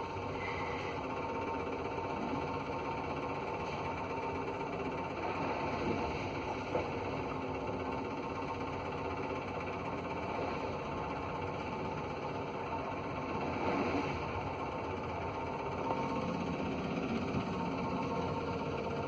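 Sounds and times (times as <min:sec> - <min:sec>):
ship engines humming: 0:00.0 - 0:19.0.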